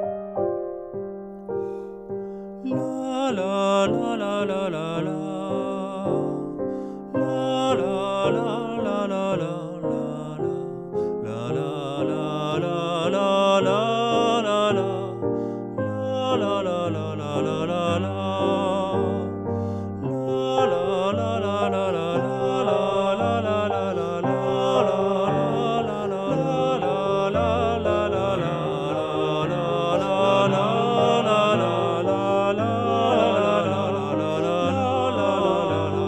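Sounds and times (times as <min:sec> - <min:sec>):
person singing la: 0:02.6 - 0:36.0.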